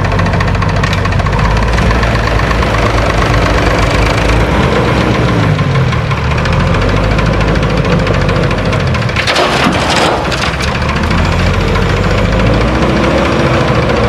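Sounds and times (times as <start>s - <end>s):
diesel engine clattering: 0.0s - 14.0s.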